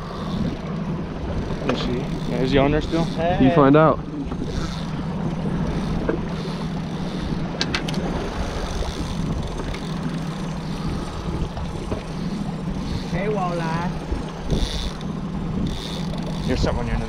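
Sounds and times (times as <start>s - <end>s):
boat motor running: 0.0s - 17.0s
wind: 0.0s - 17.0s.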